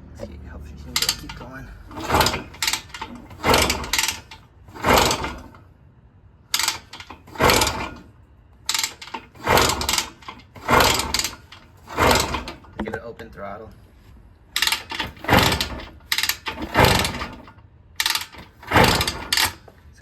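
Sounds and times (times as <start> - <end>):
engine cranking by kick-starter: 0.7 - 5.7, 6.5 - 12.8, 14.5 - 19.8
crunching from engine: 0.7 - 5.8, 6.5 - 13.1, 14.2 - 20.0.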